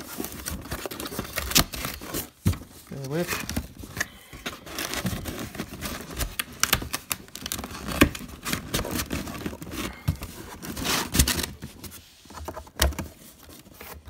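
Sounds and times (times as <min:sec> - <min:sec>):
cardboard scraping and tearing: 0:00.0 - 0:14.0.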